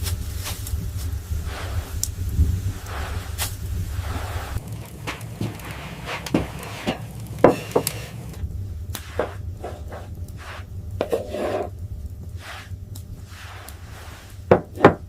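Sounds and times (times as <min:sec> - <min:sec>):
wood rubbing or scraping: 0:00.0 - 0:08.4, 0:09.0 - 0:15.0
steady low rumble: 0:00.0 - 0:15.0.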